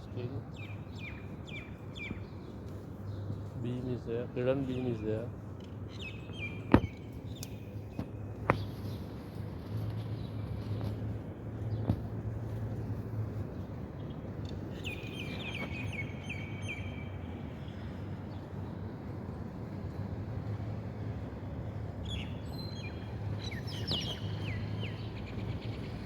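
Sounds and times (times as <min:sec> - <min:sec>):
small birds chirping: 0:00.0 - 0:18.9, 0:21.6 - 0:26.0.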